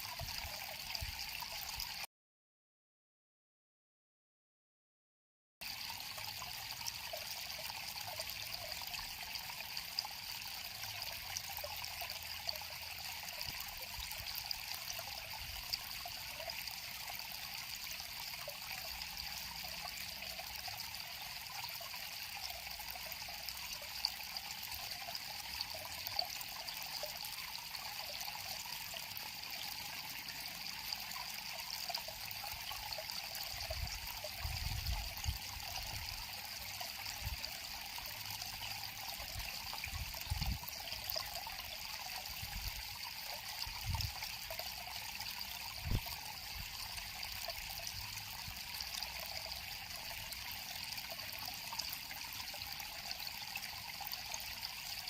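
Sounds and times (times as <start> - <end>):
river water flowing: 5.7 - 55.0.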